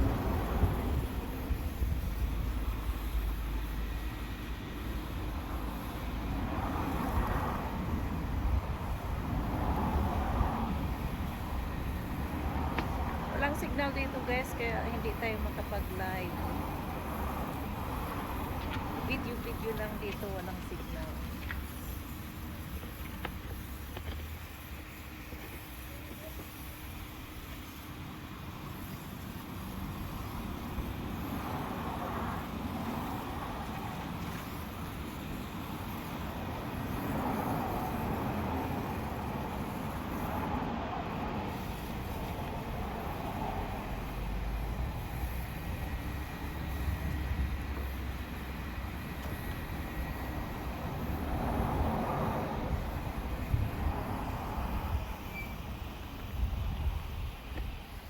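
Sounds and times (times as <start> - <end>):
rumble of vehicles: 0.0 - 58.0.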